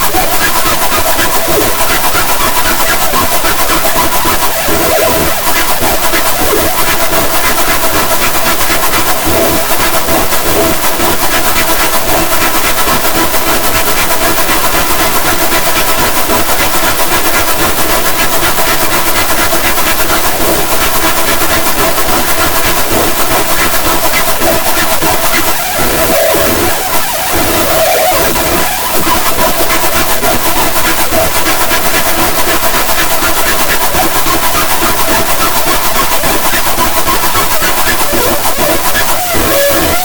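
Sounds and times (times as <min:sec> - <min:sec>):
harsh distorted noise: 0:00.0 - 0:40.0.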